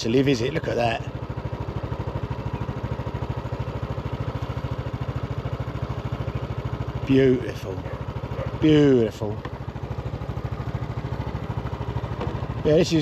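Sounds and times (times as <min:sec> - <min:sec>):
motorbike engine idling: 0:00.0 - 0:13.0.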